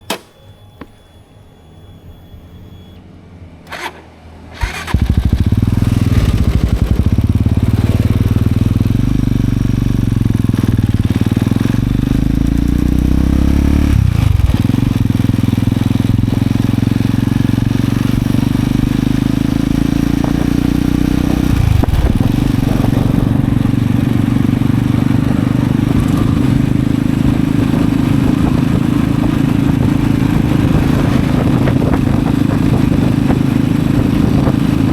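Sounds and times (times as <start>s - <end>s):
motorcycle engine starting and running: 0.0s - 34.9s.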